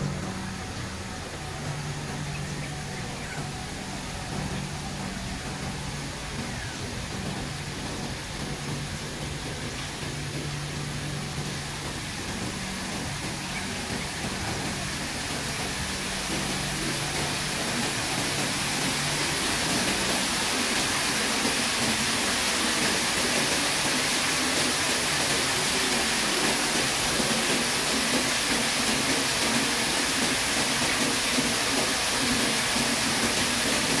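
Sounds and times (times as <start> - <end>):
small waterfall splashing into pool: 0.0 - 34.0.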